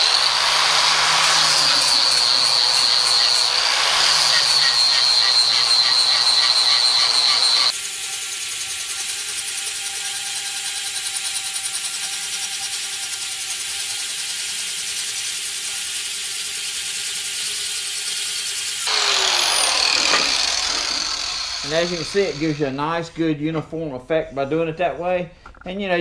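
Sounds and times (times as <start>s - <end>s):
grinder winding down: 0.0s - 22.8s
angle grinder whining: 0.0s - 23.0s.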